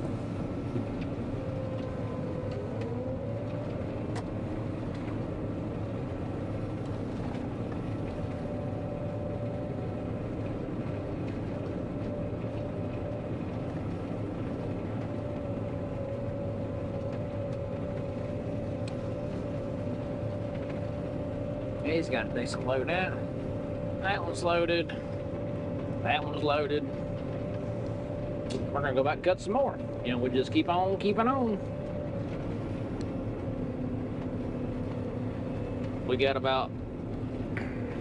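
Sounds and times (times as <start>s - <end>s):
combine harvester running: 0.0s - 38.0s.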